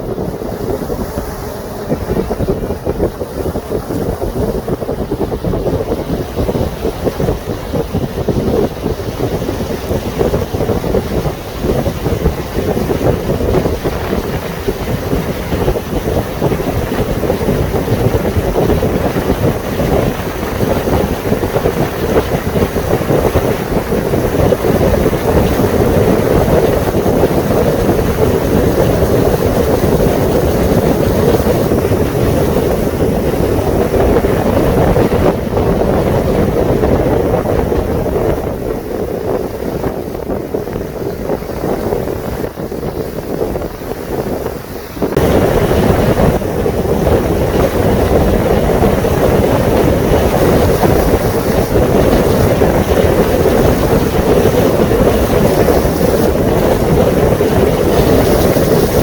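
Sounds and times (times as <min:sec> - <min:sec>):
boat engine running: 0:00.0 - 0:59.0
water along boat hull: 0:00.0 - 0:59.0
wind buffeting microphone: 0:00.0 - 0:59.0.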